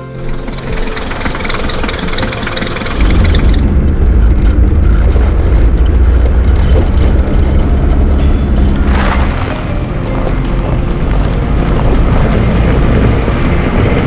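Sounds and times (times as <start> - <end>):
car engine running: 0.0 - 14.0
deep engine drone: 0.0 - 14.0.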